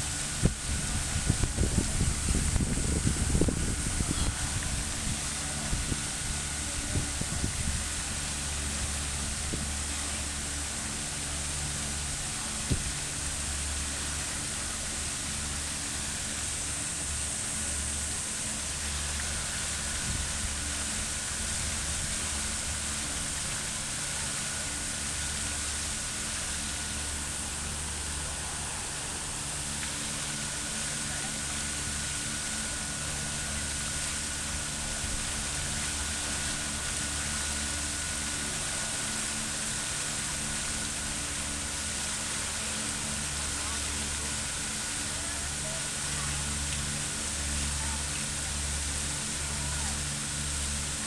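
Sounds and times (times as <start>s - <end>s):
fountain water splashing: 0.0s - 51.0s.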